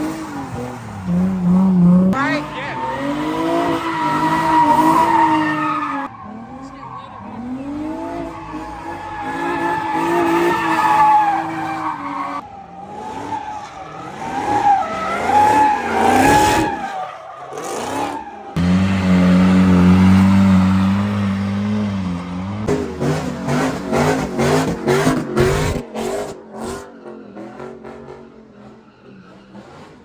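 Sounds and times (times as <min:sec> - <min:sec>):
car engine revving: 0:00.0 - 0:16.8, 0:17.5 - 0:30.0
tires squealing and skidding: 0:00.0 - 0:30.0.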